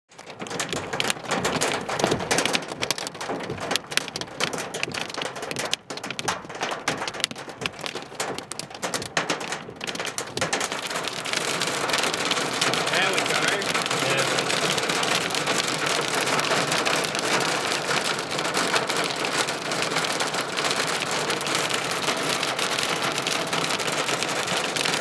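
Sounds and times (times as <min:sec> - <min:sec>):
hailstones hitting a car: 0:00.1 - 0:25.0.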